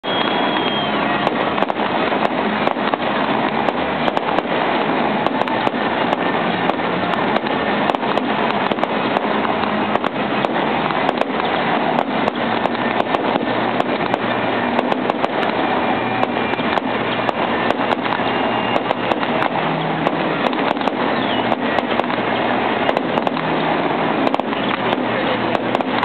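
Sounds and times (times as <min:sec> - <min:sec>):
firework pops and bangs: 0:00.0 - 0:23.6, 0:24.2 - 0:26.0.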